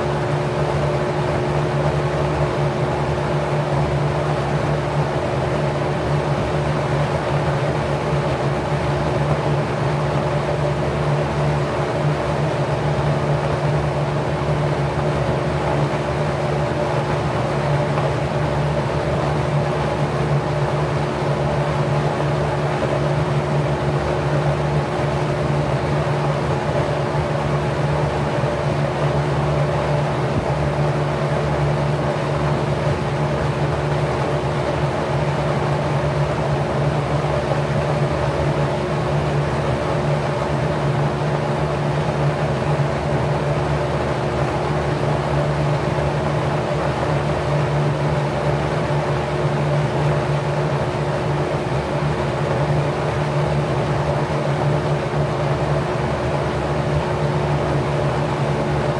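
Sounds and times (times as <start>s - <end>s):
fan air rushing: 0.0s - 58.9s.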